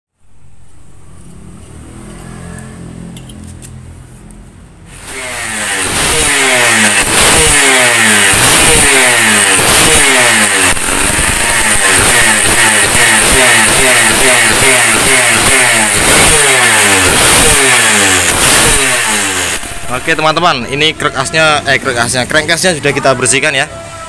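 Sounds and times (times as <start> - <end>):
two-stroke engine idling and revving: 0.9 - 3.7, 4.9 - 24.0.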